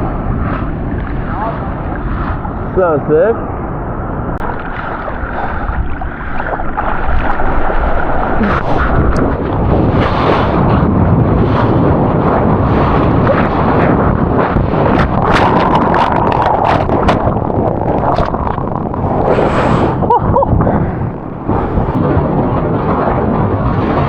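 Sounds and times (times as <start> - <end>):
wind buffeting microphone: 0.0 - 24.0
surf breaking: 4.3 - 24.0.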